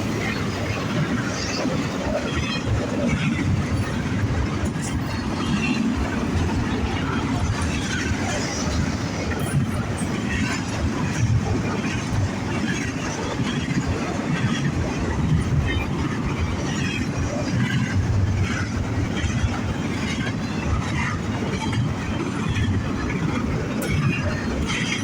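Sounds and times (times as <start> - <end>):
train rumbling and clattering past: 0.0 - 25.0.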